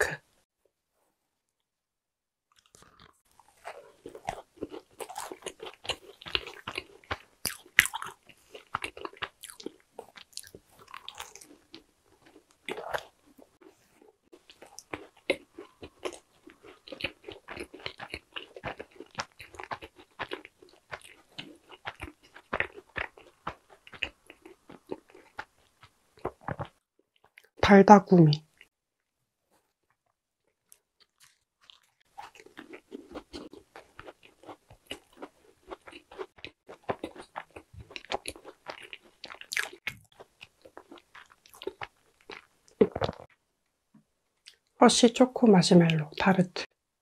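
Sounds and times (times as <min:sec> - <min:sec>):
person chewing: 0:02.5 - 0:27.6, 0:28.3 - 0:43.4.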